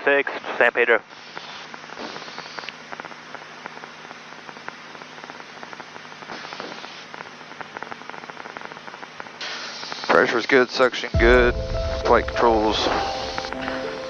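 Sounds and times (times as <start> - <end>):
crackling intercom static: 0.0 - 14.0.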